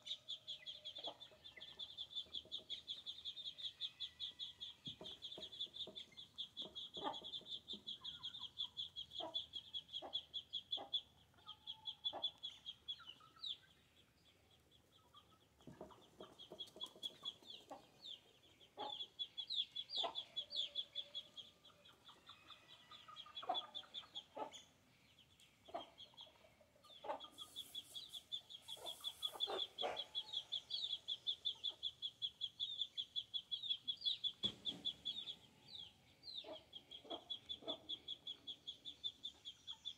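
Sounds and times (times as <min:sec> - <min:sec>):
chickens clucking: 0:00.0 - 0:13.9, 0:14.8 - 0:39.9.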